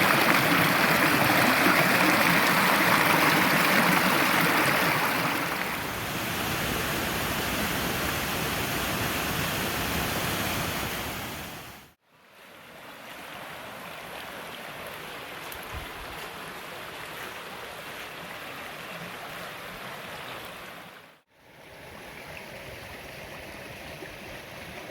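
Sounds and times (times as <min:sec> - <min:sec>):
waterfall and creek rushing: 0:00.0 - 0:21.2.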